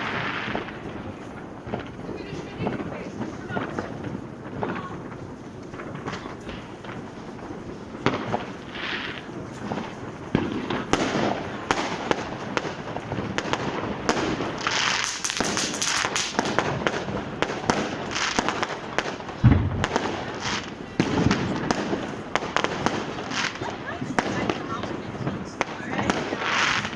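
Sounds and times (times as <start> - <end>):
deep heavy firework boom: 0.0 - 26.9
fireworks cracks and bangs: 0.0 - 26.9.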